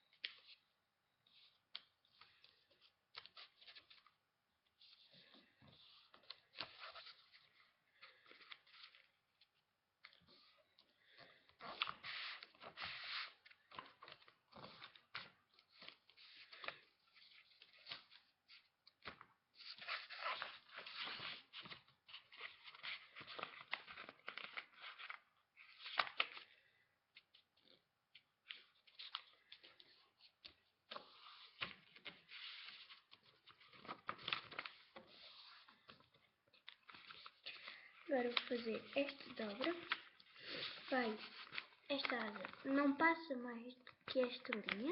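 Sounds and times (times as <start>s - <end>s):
paper rustling and crinkling: 4.8s - 26.6s, 27.2s - 43.0s, 43.8s - 44.9s.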